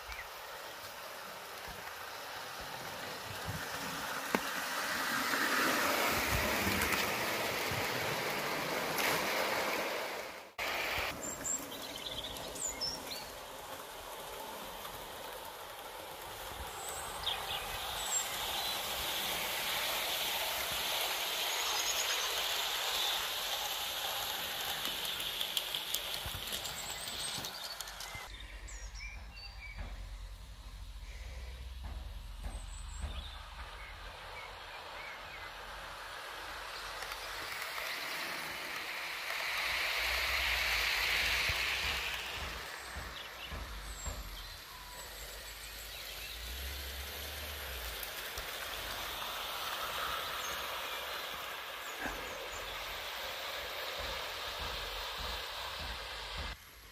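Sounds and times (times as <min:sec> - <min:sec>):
model train wheels clattering on rails: 0:00.0 - 0:56.9
birds chirping: 0:10.6 - 0:56.6.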